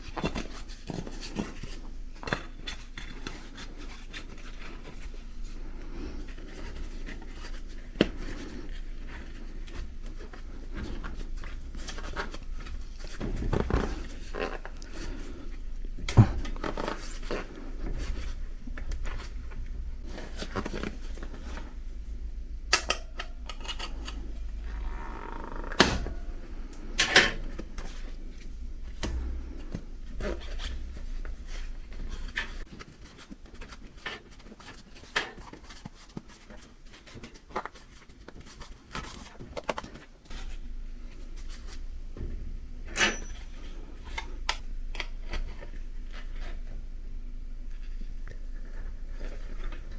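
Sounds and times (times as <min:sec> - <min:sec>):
bicycle tyre being handled: 0:00.0 - 0:42.4.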